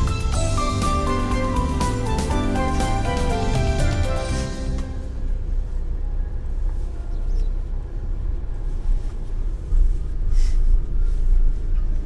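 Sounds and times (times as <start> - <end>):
road and engine rumble in van: 0.0 - 12.0.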